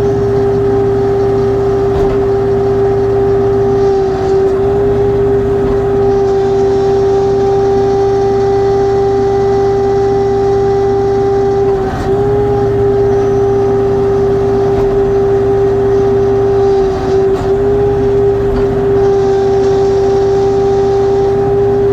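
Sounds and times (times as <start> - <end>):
low engine hum: 0.0 - 21.9
tractor hydraulic whine: 0.0 - 21.9.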